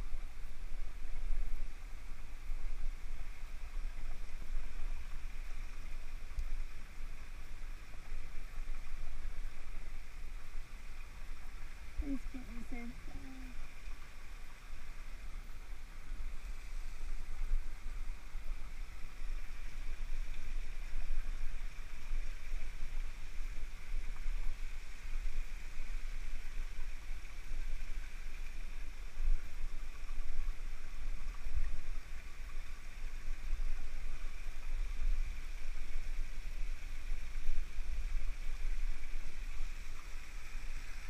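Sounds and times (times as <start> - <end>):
steady high hiss: 0.0 - 41.0.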